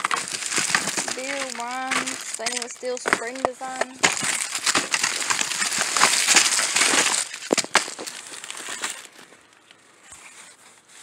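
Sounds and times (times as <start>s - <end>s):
plastic packaging crinkling: 0.0s - 10.7s
soft rustling: 0.0s - 11.0s.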